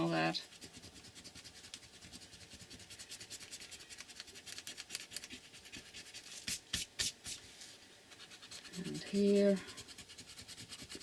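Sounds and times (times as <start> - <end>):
eraser rubbing on paper: 0.0 - 7.4, 8.1 - 11.0.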